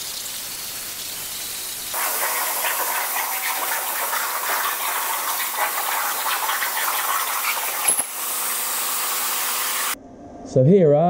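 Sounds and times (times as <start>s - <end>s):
plasma torch crackling hiss: 0.0s - 10.0s.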